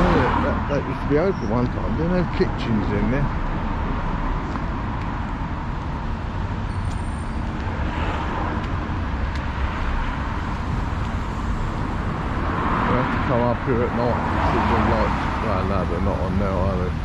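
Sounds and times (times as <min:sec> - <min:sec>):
road traffic hum: 0:00.0 - 0:17.0.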